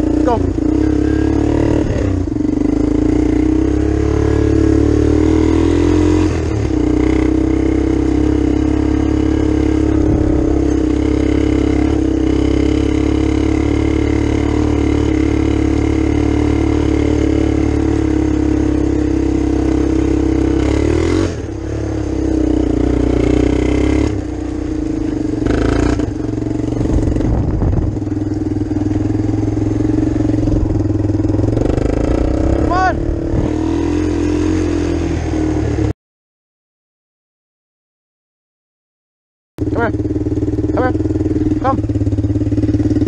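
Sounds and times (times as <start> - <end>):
atv engine running: 0.0 - 35.9, 39.6 - 43.0.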